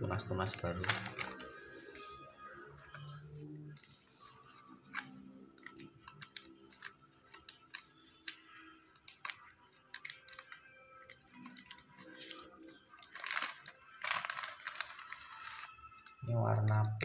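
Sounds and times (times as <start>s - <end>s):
plastic bag crinkling: 0.2s - 16.2s.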